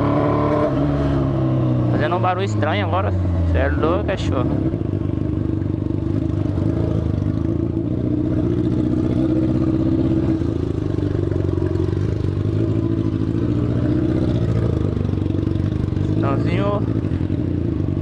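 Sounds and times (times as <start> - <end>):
loud exhaust: 0.0 - 18.0.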